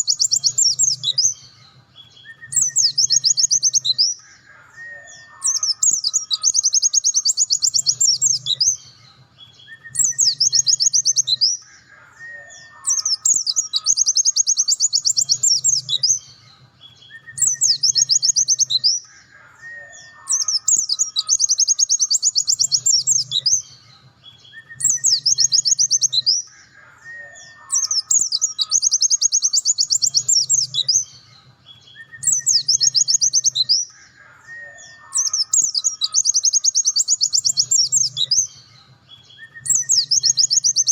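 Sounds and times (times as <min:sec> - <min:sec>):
bird singing rapid high trills: 0:00.0 - 0:40.9.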